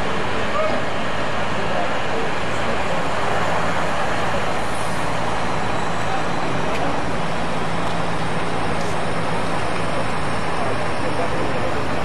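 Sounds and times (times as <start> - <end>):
diesel machinery humming: 0.0 - 12.0.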